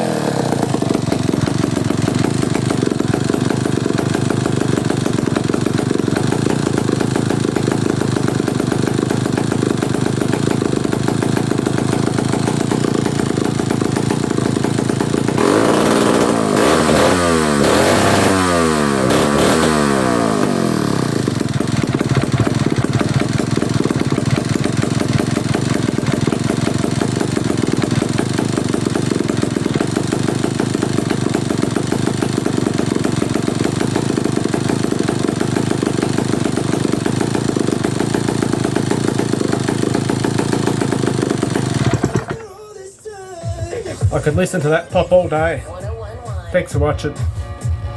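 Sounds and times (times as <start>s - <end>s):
chainsaw idling and revving: 0.0s - 42.5s.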